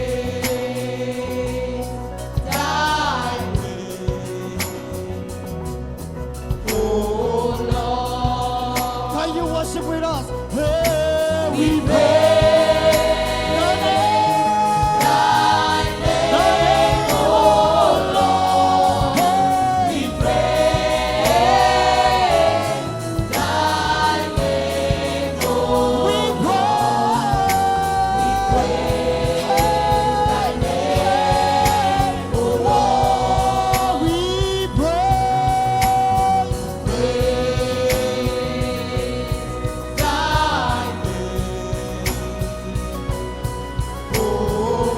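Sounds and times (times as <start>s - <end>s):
band with steady beat: 0.0s - 44.9s
choir singing gospel: 0.0s - 44.9s.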